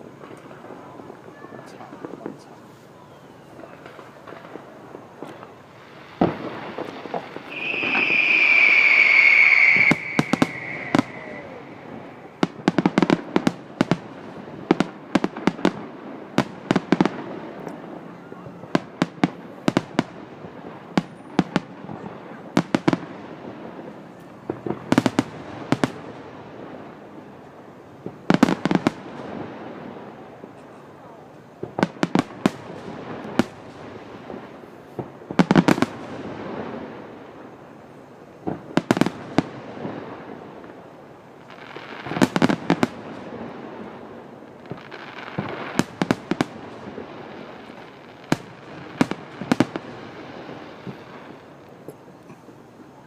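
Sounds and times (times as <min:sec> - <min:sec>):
fireworks bursting bangs: 0:00.0 - 0:52.7
fireworks hissing and crackling: 0:00.0 - 0:53.0.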